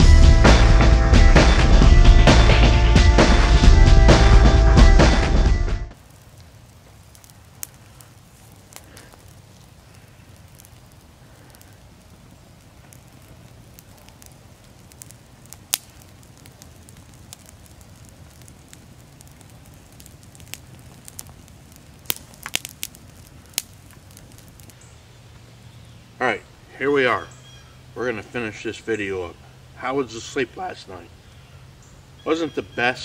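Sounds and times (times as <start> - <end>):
campfire burning rumble: 0.0 - 33.0
fire crackles and pops: 0.0 - 33.0.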